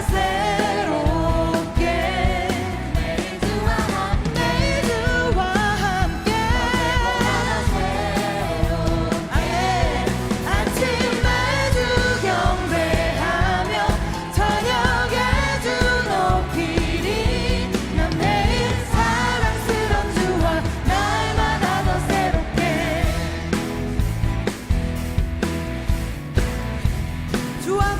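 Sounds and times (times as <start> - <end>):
group singing worship song: 0.0 - 24.1
band with drums: 0.0 - 27.9.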